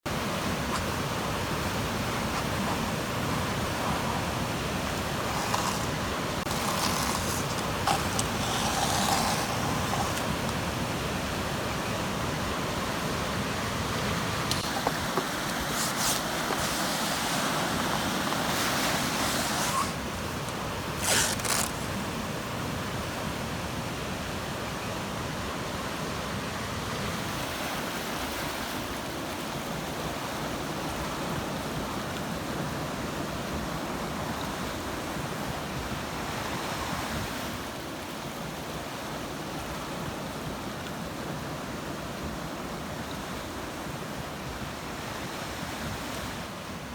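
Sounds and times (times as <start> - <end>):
ocean surf washing: 0.1 - 46.9.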